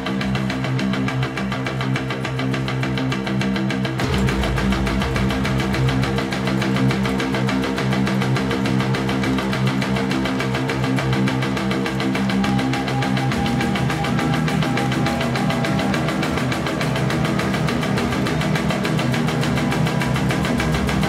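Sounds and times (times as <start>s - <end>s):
heavy metal music: 0.0s - 21.0s.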